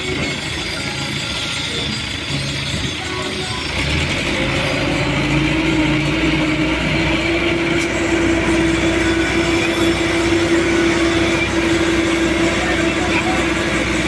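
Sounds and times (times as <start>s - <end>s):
diesel engine running under load: 0.0s - 14.0s
hydraulic whine: 0.0s - 14.0s.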